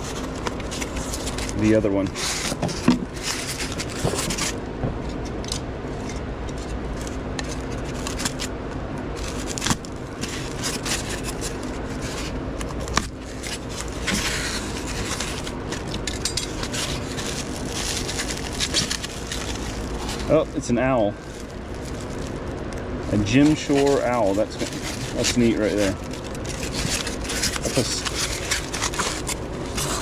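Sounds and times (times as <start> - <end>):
plastic wrapper crinkling: 0.0 - 4.6, 7.0 - 8.5, 9.2 - 30.0
styrofoam rubbing and scraping: 0.0 - 4.6, 9.2 - 22.5, 23.1 - 30.0.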